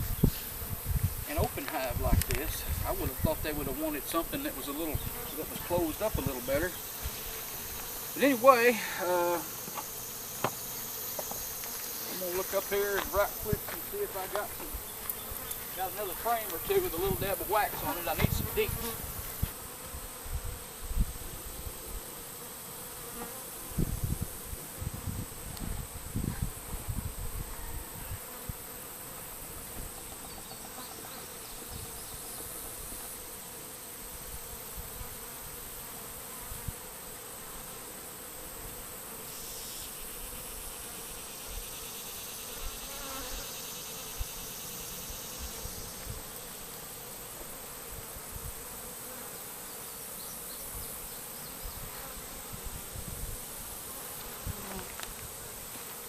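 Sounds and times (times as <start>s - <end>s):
bee swarm buzzing: 0.0s - 56.0s.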